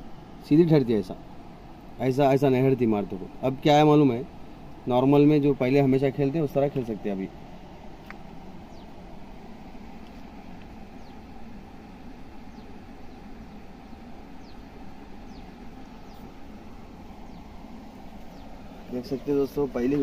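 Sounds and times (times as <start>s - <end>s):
low background rumble: 0.0s - 20.0s
small birds chirping: 0.0s - 20.0s.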